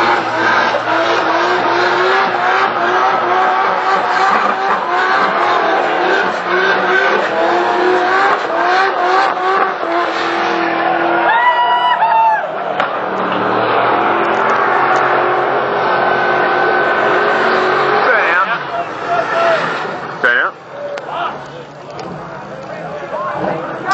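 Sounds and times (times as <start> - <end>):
car engine revving high: 0.0 - 11.6, 12.4 - 20.7
tyres spinning and screeching: 0.0 - 11.6, 12.5 - 23.9.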